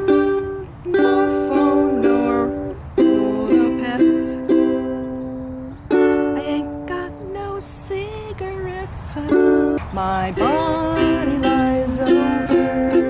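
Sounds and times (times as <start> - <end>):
ukulele strumming chords: 0.0 - 8.3, 9.2 - 13.0.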